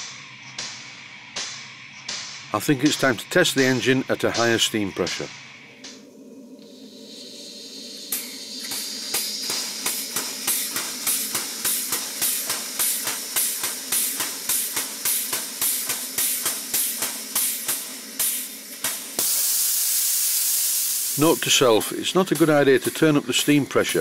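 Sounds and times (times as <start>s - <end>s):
gas burner roar: 0.0s - 24.0s
loud steam hiss: 0.0s - 24.0s
steam pump exhaust puffing: 0.0s - 24.0s.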